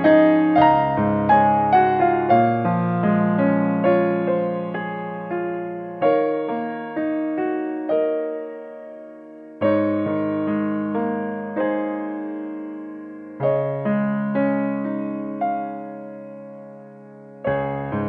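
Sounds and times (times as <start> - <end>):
slow soft piano piece: 0.0 - 18.0.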